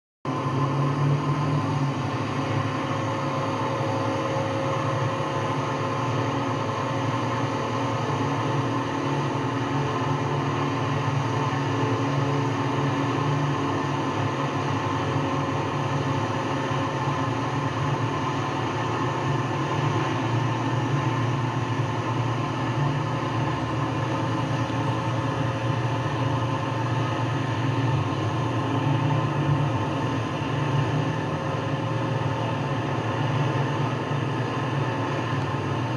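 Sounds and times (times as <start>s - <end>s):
faint steady whine: 0.3s - 35.9s
truck engine drone: 0.3s - 35.9s.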